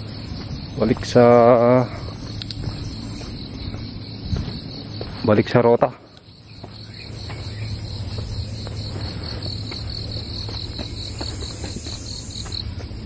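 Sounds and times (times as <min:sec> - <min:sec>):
insects chirping: 0:00.0 - 0:13.0
steady high hiss: 0:00.0 - 0:13.0
footsteps on stone steps: 0:02.1 - 0:13.0.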